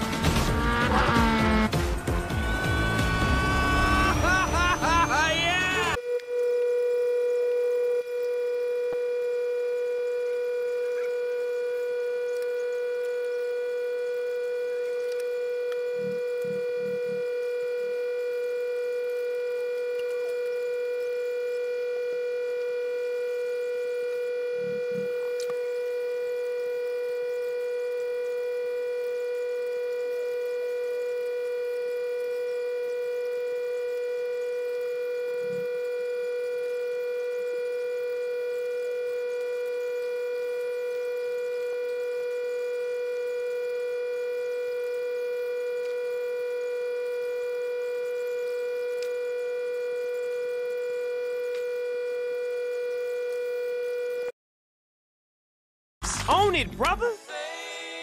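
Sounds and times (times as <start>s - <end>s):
steady buzzing tone: 0.0s - 54.3s.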